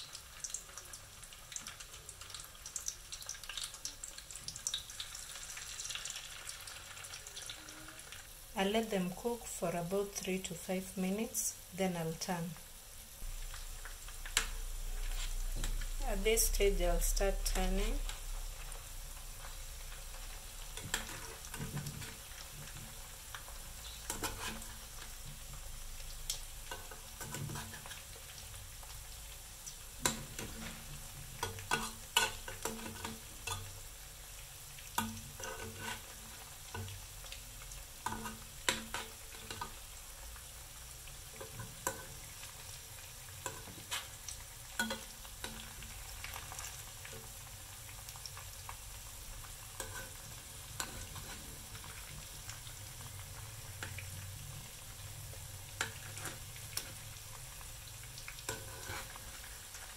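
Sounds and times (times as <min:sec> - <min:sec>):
food frying in hot oil: 0:00.0 - 0:59.9.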